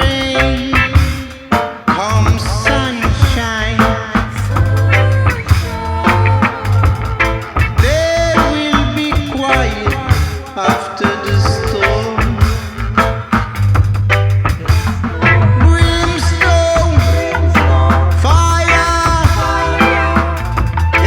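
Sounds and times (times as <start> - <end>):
deep bass line: 0.0 - 1.3, 2.0 - 10.6, 11.3 - 21.0
reggae band playing: 0.0 - 21.0.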